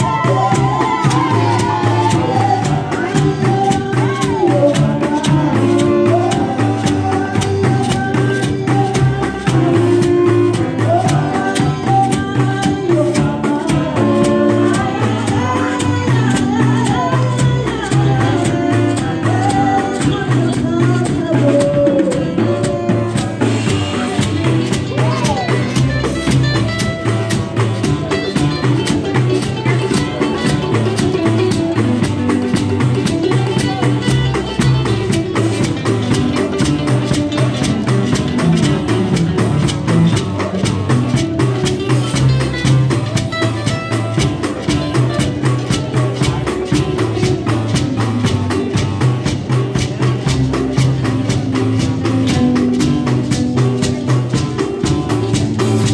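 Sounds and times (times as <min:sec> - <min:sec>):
bass marimba low notes: 0:00.0 - 0:55.9
marimba band playing: 0:00.0 - 0:55.9.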